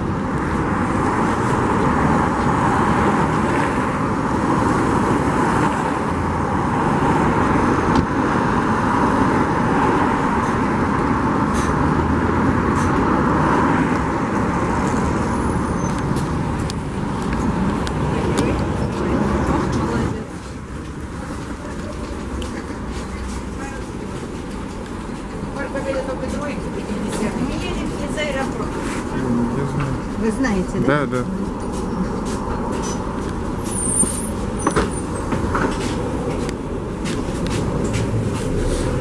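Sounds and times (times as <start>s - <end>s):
cars and buses passing: 0.0s - 39.0s
city traffic noise: 0.0s - 39.0s.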